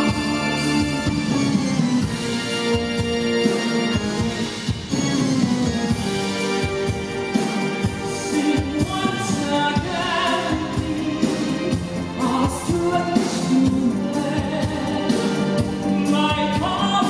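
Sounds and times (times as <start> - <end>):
loud instrumental accompaniment: 0.0 - 17.0.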